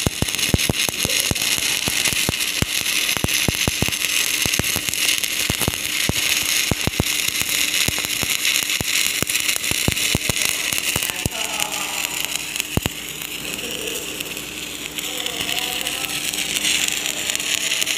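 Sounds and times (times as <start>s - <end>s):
welding arc hissing and crackling: 0.0s - 17.9s.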